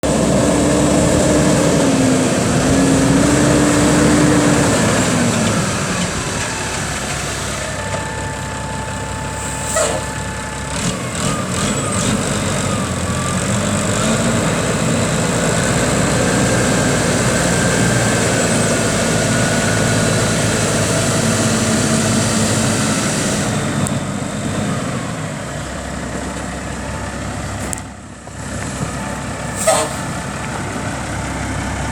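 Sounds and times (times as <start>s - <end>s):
diesel truck engine running: 0.0s - 31.9s.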